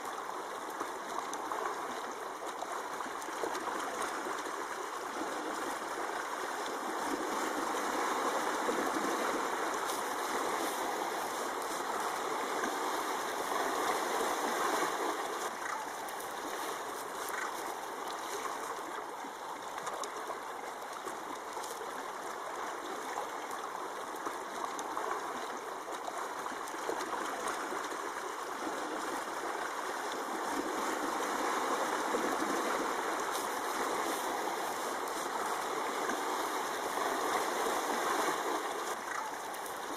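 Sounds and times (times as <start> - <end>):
faint crackles: 0.0 - 39.9
rushing stream-like noise: 0.0 - 39.9.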